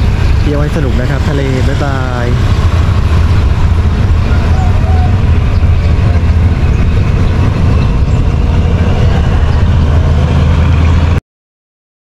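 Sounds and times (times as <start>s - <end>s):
diesel railway engine humming: 0.0s - 11.2s.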